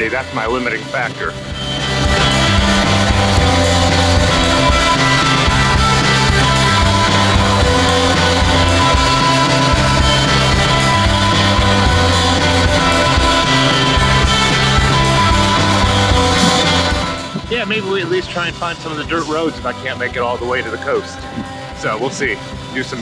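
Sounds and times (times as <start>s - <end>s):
guitar-led rock music: 0.0s - 23.0s.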